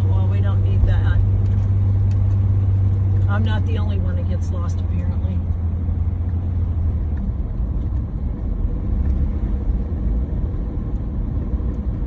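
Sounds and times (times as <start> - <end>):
van engine and road noise: 0.0 - 12.0.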